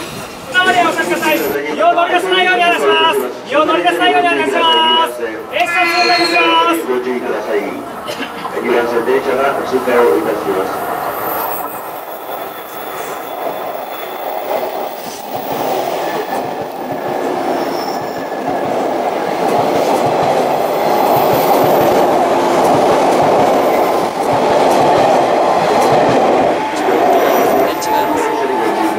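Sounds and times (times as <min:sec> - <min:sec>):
train wheels rolling on rails: 0:05.4 - 0:28.9.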